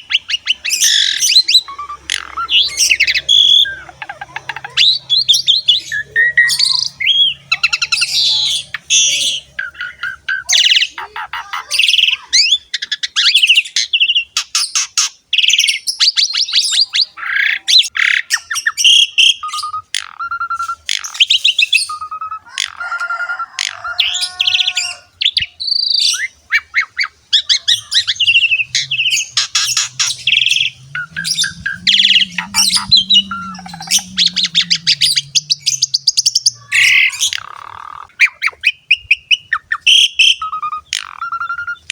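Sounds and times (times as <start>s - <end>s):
starling singing: 0.0s - 22.6s, 23.8s - 41.9s.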